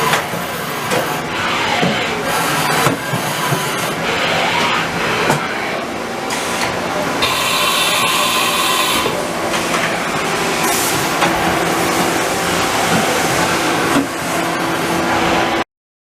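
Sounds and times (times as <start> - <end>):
machining center whine and hiss: 0.0 - 15.6.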